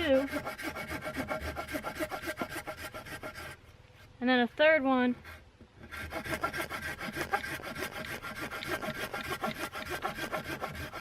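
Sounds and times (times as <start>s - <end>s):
hand saw cutting wood: 0.0s - 4.5s, 5.2s - 11.0s.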